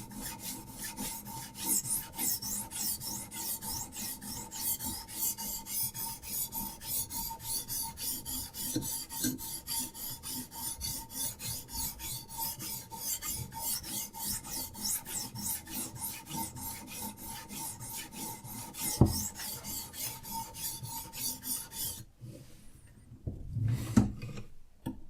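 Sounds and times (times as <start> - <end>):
sharpening stone rasping on knife: 0.0 - 22.0.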